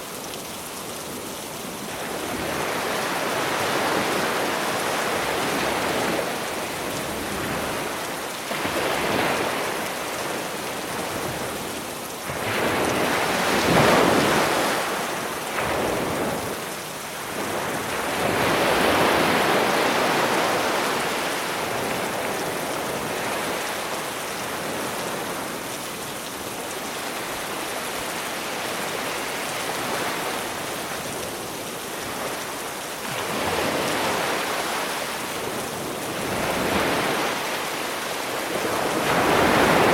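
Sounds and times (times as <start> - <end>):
sea waves washing onto shore: 0.0 - 39.9
steady rain: 0.0 - 39.9.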